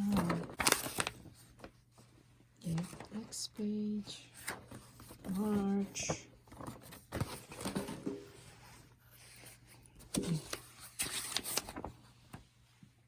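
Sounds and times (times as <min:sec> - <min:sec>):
page turning rustle: 0:00.0 - 0:03.2, 0:04.3 - 0:12.5
paper pages crinkling: 0:00.0 - 0:03.4, 0:04.3 - 0:12.4.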